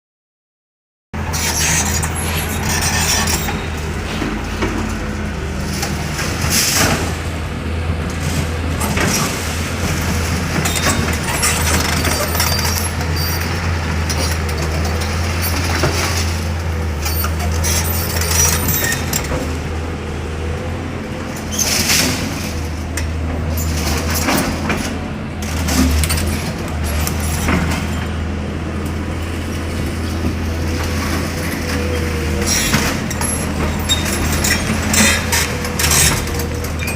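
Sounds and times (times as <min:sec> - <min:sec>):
diesel demolition machinery running: 0:01.2 - 0:36.9.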